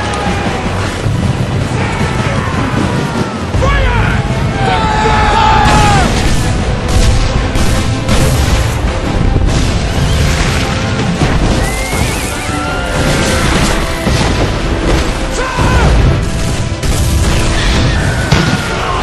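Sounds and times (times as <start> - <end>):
battle crashes: 0.0 - 19.0
soundtrack music: 0.0 - 19.0.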